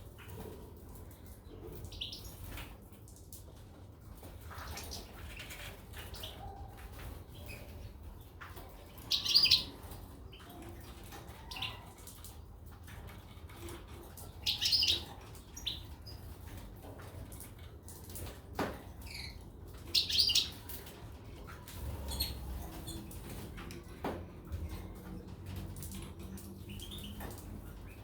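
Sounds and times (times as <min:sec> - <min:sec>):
small birds chirping: 0:00.0 - 0:02.8, 0:04.3 - 0:12.5, 0:13.5 - 0:18.0, 0:18.9 - 0:23.8, 0:24.5 - 0:28.0.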